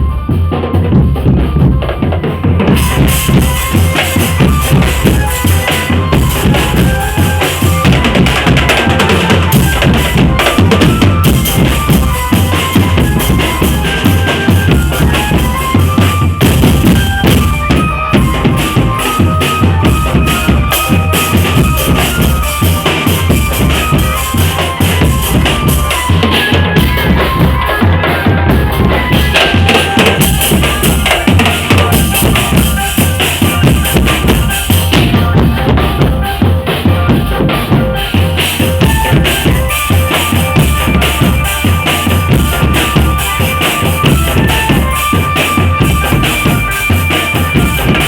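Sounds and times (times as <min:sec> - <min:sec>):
bass drums beating: 0:00.0 - 0:48.0
rapid snare drumming: 0:00.4 - 0:48.0.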